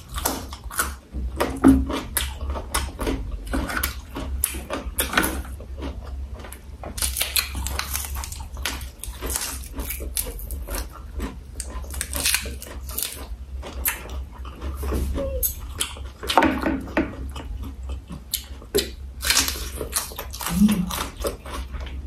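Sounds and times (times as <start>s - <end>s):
crunchy chewing: 0.0s - 22.0s.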